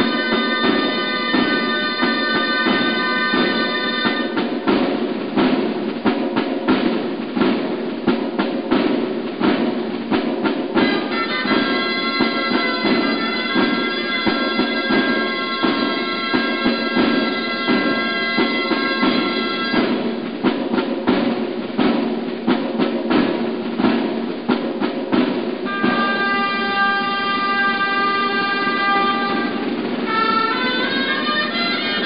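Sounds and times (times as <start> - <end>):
drum beating: 0.0 - 32.0
shawms playing a melody: 0.0 - 32.0.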